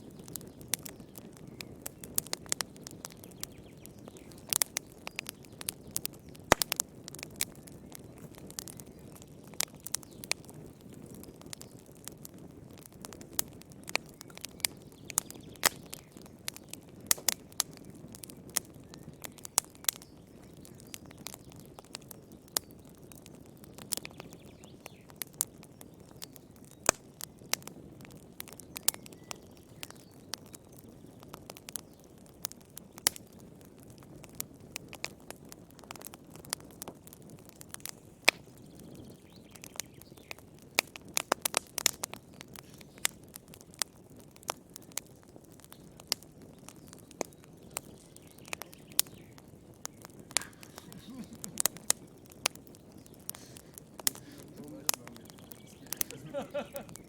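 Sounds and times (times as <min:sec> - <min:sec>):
wood fire crackling and popping: 0:00.0 - 0:57.0
low rush of burning: 0:00.1 - 0:29.0, 0:29.8 - 0:57.0.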